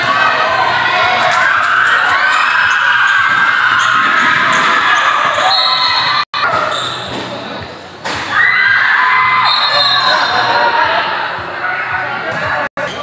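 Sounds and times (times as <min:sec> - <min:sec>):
spectators shouting and cheering: 0:00.0 - 0:13.0.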